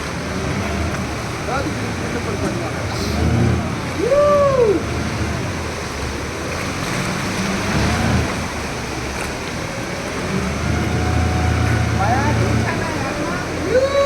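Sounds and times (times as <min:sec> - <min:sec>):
waves rushing: 0:00.0 - 0:14.0
wind: 0:00.0 - 0:14.0.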